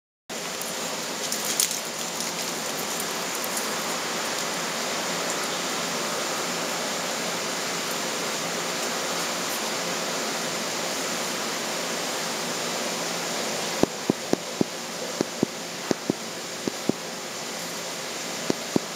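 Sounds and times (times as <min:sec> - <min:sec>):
steady hiss: 0:00.3 - 0:18.9.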